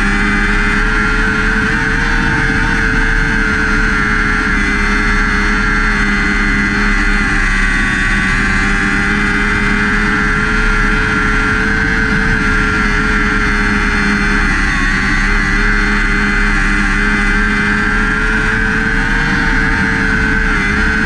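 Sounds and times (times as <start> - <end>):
race car engine running: 0.0 - 21.0.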